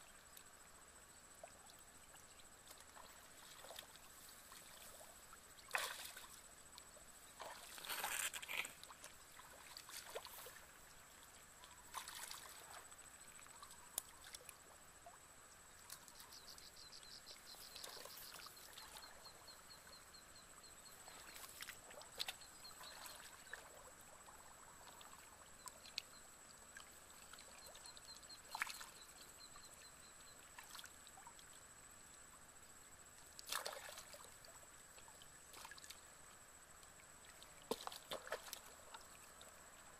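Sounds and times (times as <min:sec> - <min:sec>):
splashing in shallow water: 0:01.4 - 0:31.6, 0:33.3 - 0:39.9.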